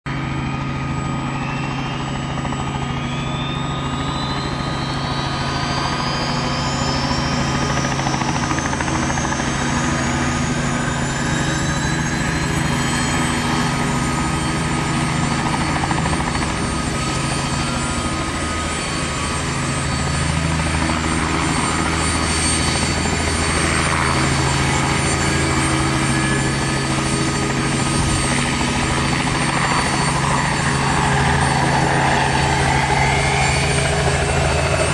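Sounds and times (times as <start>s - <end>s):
helicopter engine whine: 0.0s - 34.9s
rotor and engine drone: 0.1s - 34.9s.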